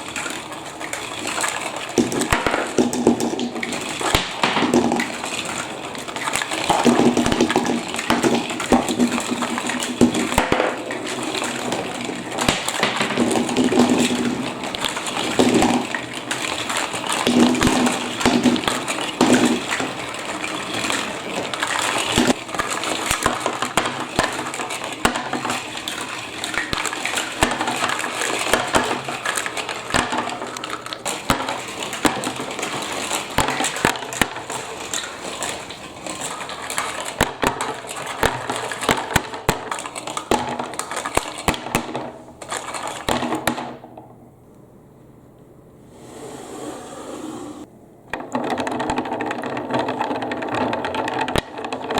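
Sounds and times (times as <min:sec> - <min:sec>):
marbles clattering in plastic run: 0:00.0 - 0:43.7, 0:48.1 - 0:51.9.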